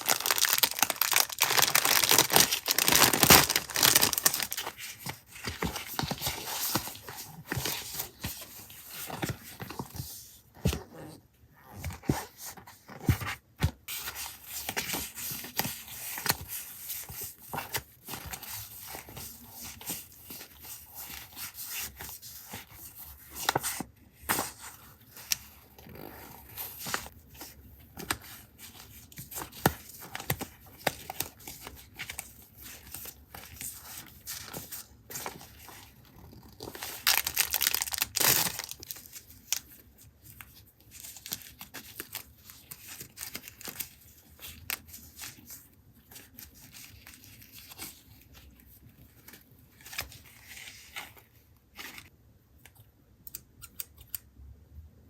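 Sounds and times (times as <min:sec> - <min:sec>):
paper crinkling and rustling: 0:00.0 - 0:10.9, 0:11.8 - 0:52.1.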